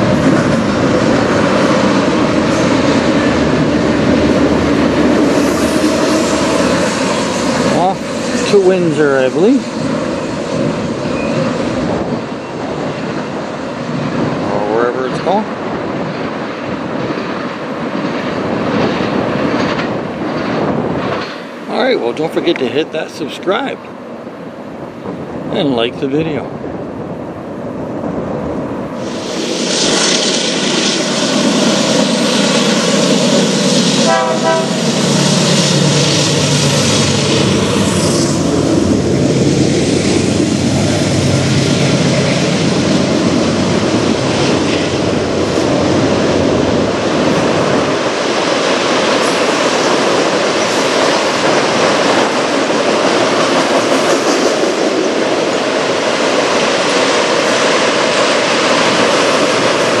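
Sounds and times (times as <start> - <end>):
diesel locomotive engine: 0.0 - 60.0
train wheels rumbling on rails: 0.0 - 60.0.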